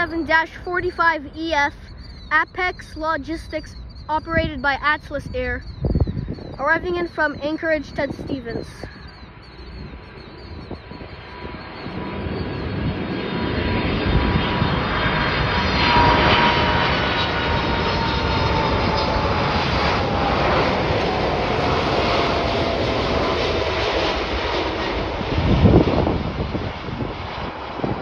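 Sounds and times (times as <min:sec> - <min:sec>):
jet engines rush and whine: 0:00.0 - 0:28.0.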